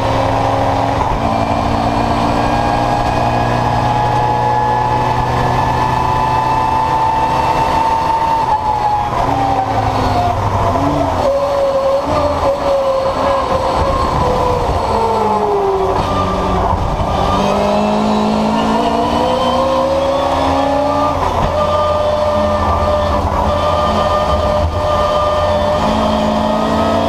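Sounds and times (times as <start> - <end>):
race car engine: 0.0 - 27.0.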